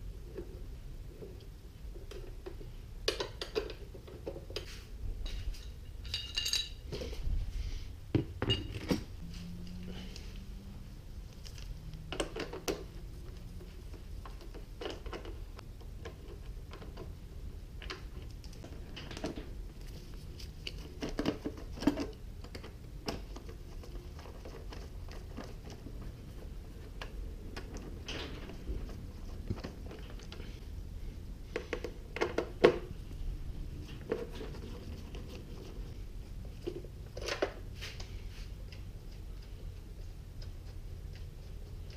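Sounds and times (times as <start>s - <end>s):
steady low hum: 3.8s - 41.9s.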